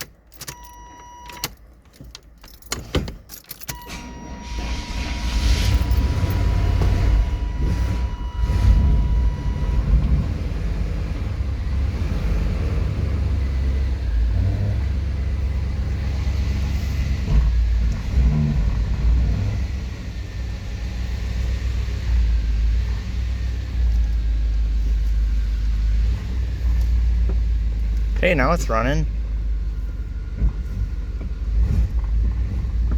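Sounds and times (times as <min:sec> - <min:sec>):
engine starting with uneven rumble: 0:02.4 - 0:32.9.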